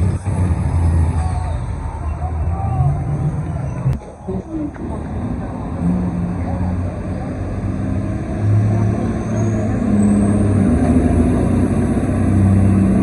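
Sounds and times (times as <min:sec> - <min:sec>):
diesel truck engine running hard: 0:00.0 - 0:13.0.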